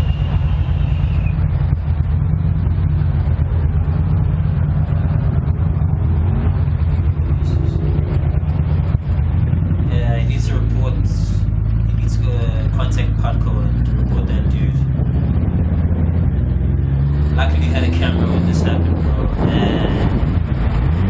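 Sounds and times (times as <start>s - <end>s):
low engine rumble: 0.0s - 21.0s
road traffic noise: 0.0s - 21.0s.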